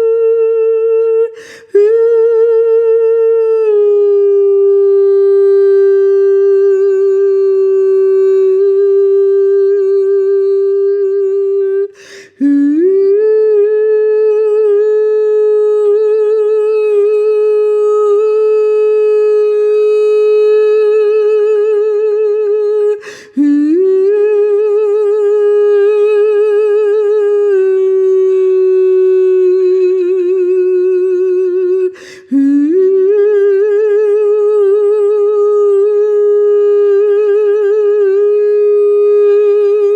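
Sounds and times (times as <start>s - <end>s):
person humming a long note: 0.0s - 39.9s.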